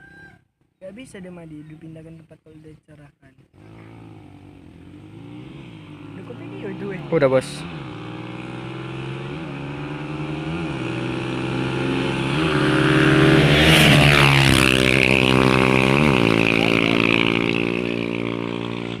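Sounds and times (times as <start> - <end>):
motorcycle engine running: 3.4 - 19.0.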